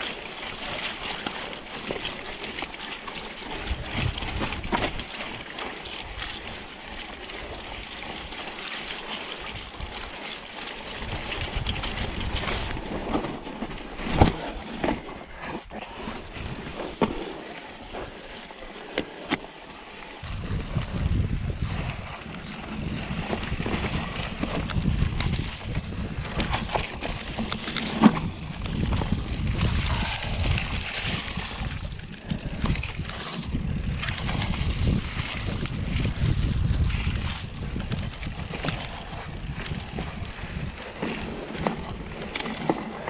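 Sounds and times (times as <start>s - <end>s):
bike rattling and knocking: 0.0s - 15.3s, 16.2s - 43.0s
bike tyres rumbling on trail: 0.0s - 43.0s.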